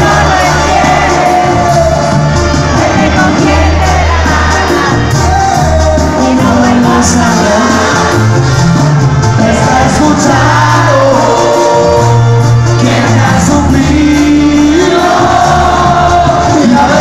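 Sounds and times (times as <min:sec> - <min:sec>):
person singing: 0:00.0 - 0:08.2, 0:09.4 - 0:17.0
drums: 0:00.0 - 0:17.0
trumpets: 0:00.0 - 0:17.0
tuba bass: 0:00.0 - 0:17.0.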